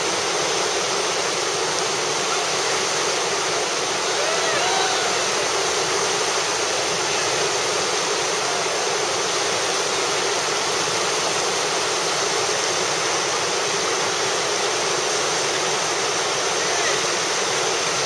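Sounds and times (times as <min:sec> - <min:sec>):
river rapid rushing: 0:00.0 - 0:18.0.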